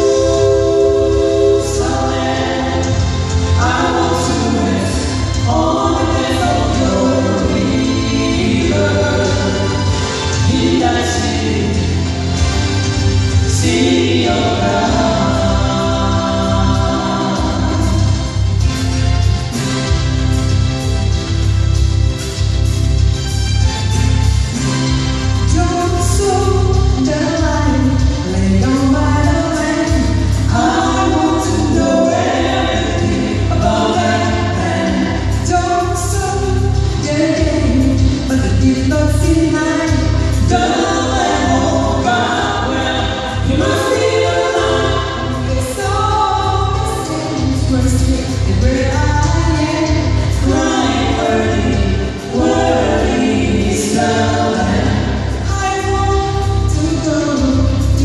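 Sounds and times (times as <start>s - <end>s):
vocal trio singing in harmony: 0.0s - 21.2s, 24.5s - 58.0s
low bass: 0.0s - 58.0s.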